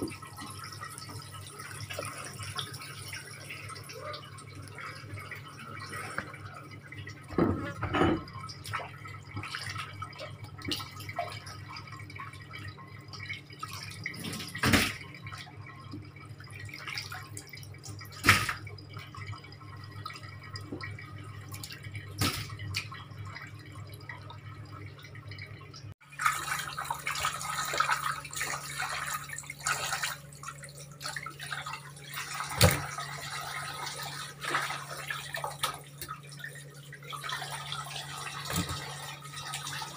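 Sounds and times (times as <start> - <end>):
fish being rinsed in water: 0.0 - 39.9
low steady hum: 0.0 - 39.9
tap water running into sink: 0.0 - 39.9.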